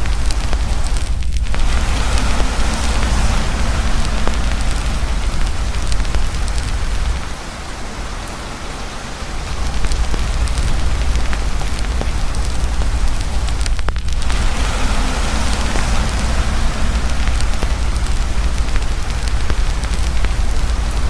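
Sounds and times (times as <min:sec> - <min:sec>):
deep low rumble: 0:00.0 - 0:08.8, 0:09.4 - 0:21.0
campfire crackling: 0:00.0 - 0:21.0
heavy rain pouring: 0:00.0 - 0:21.0.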